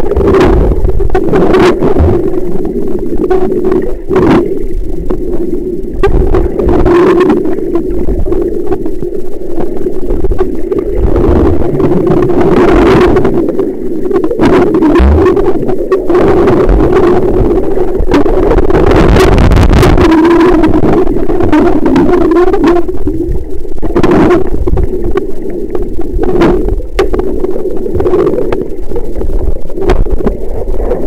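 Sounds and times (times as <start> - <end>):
low underwater hum: 0.0 - 31.0
rumbling water: 0.0 - 31.0.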